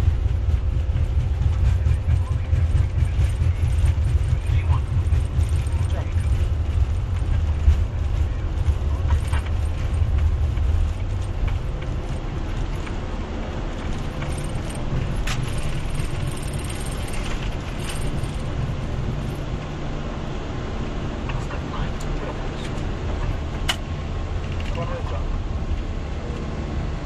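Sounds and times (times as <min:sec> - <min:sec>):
aircraft engine and airflow rumble: 0:00.0 - 0:27.0.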